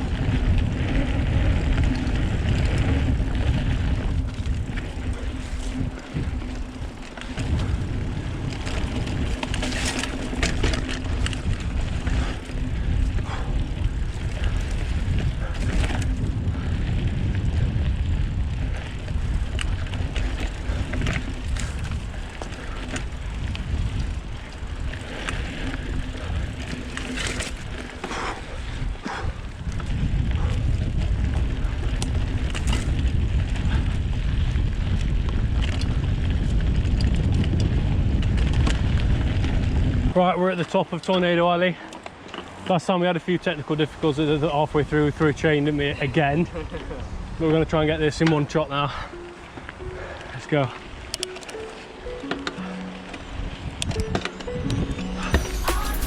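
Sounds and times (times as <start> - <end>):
wind buffeting microphone: 0.0 - 40.2, 43.6 - 51.7, 52.6 - 55.0
bike tyre rumble: 0.0 - 42.7, 43.3 - 51.8
bike rattles and clicks: 0.0 - 54.5.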